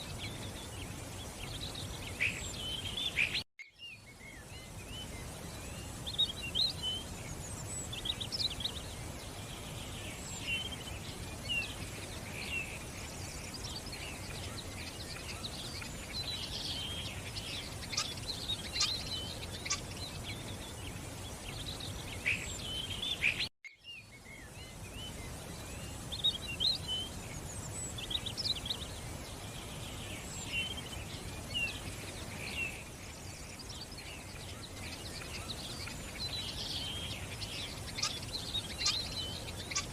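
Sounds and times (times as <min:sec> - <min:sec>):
running water murmur: 0:00.0 - 0:39.9
small birds chirping and trilling: 0:00.0 - 0:39.9.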